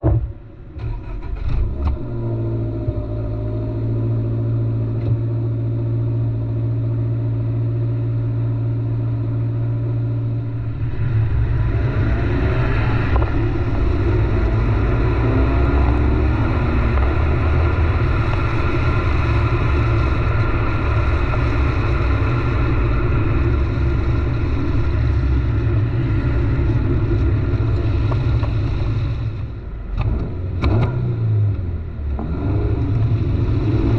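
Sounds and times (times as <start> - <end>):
car exhaust idling and revving: 0.0 - 33.9.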